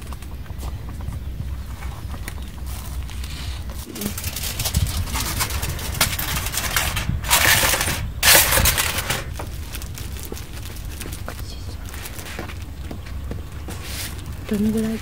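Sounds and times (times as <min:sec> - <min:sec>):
aluminium foil crinkling: 0:02.4 - 0:15.0.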